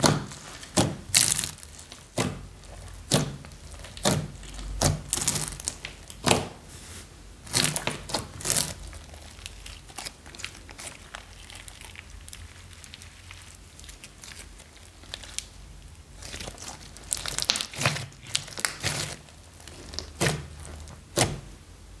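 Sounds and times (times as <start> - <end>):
crunchy slime crackling and popping: 0.0 - 6.6, 7.4 - 21.5.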